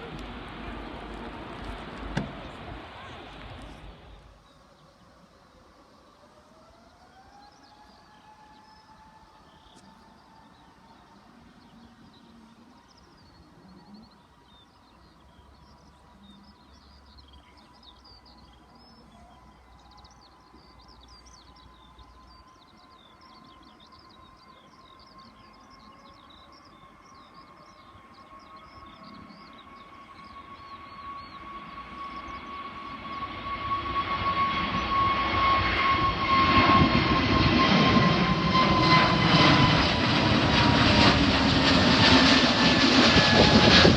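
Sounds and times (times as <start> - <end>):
jet airliner engines whine: 0.0 - 13.8, 20.0 - 43.9.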